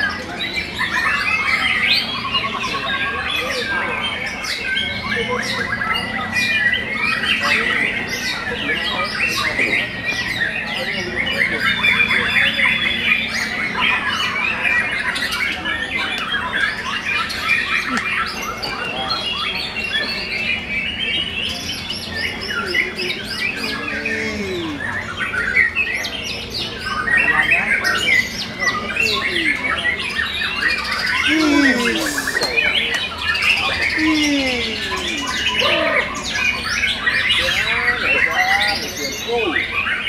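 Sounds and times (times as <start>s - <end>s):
chorus of birds singing: 0.0s - 40.0s.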